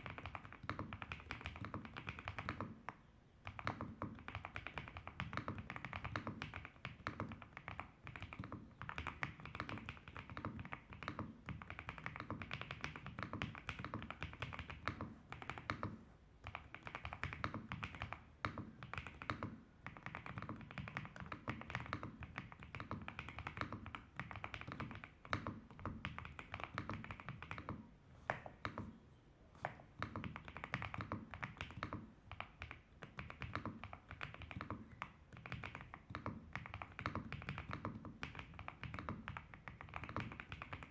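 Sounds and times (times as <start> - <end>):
mechanical keyboard typing: 0.0 - 2.8, 3.4 - 27.8, 30.0 - 40.9.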